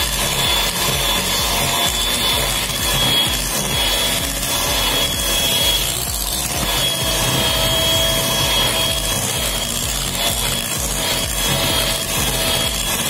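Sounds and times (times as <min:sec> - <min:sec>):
electric hand mixer running: 0:00.0 - 0:13.0.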